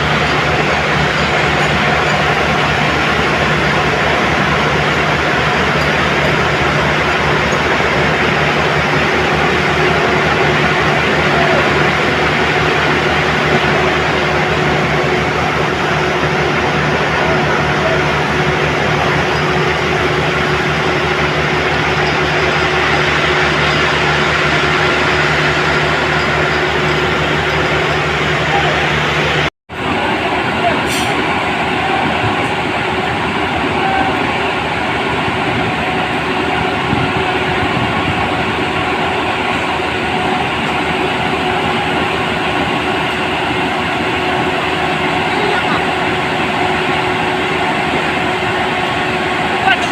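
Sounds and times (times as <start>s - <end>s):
heavy machine engine rumbling: 0.0s - 49.9s.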